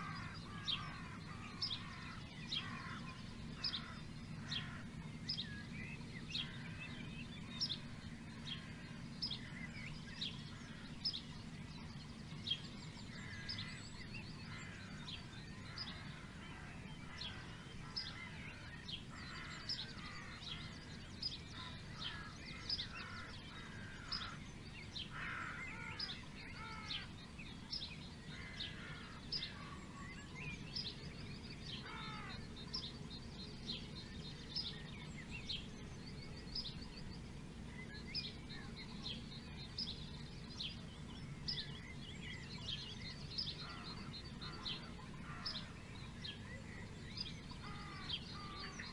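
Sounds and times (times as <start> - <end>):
songbirds chirping and warbling: 0.0 - 48.9.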